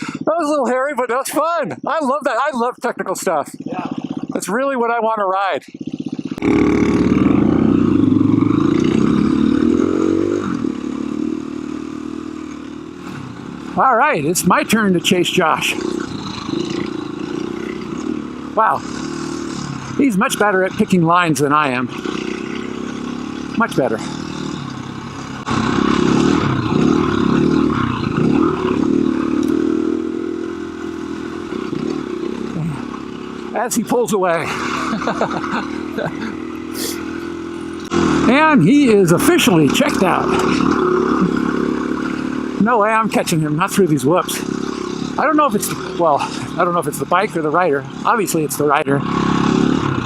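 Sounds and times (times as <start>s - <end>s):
dirt bike engine revving: 1.8s - 50.0s.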